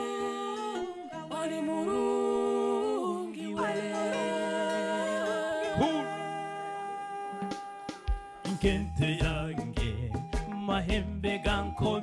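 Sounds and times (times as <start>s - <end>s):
voices humming and singing: 0.0s - 12.0s.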